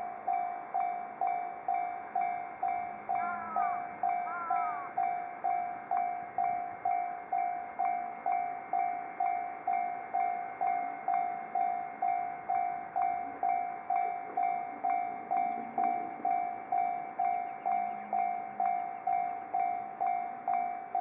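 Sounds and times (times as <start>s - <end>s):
level-crossing alarm bell: 0.0s - 21.0s.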